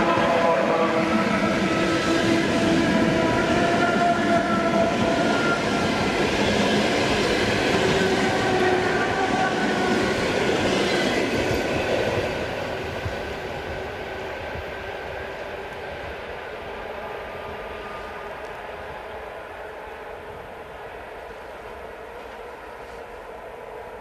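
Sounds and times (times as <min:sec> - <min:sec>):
electric train running past: 0:00.0 - 0:24.0.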